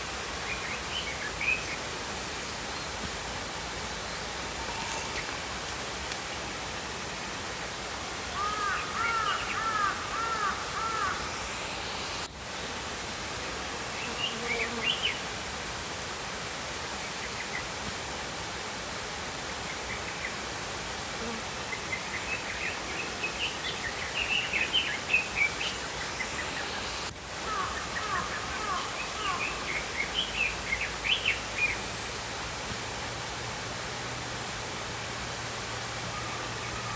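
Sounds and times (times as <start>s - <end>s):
stream flowing: 0.0s - 36.9s.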